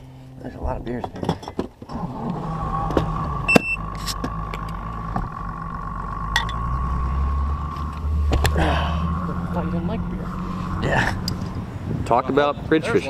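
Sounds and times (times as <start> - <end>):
boat motor humming: 0.0 - 1.1, 1.7 - 13.0.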